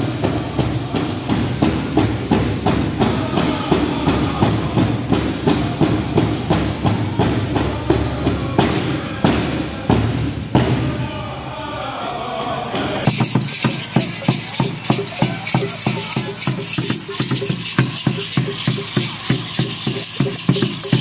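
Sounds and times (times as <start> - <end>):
drum beating fast: 0.0 - 11.2, 13.0 - 21.0.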